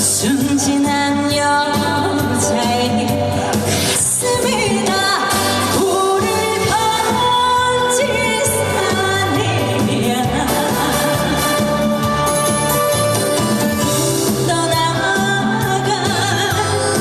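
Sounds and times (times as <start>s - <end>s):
woman singing: 0.0s - 12.6s, 14.2s - 17.0s
amplified backing track: 0.0s - 17.0s.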